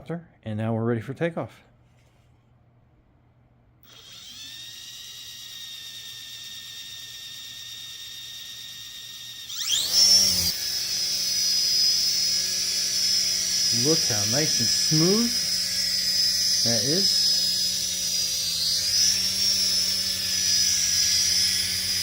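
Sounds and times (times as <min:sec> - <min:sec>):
toy helicopter motor whine: 0:03.8 - 0:22.0.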